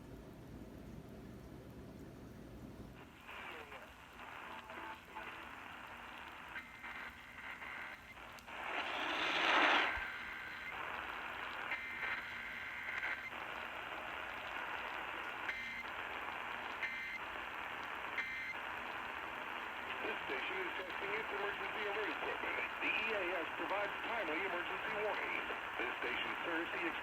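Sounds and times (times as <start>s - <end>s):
loud static burst: 3.0s - 27.0s
radio static hiss: 3.0s - 27.0s.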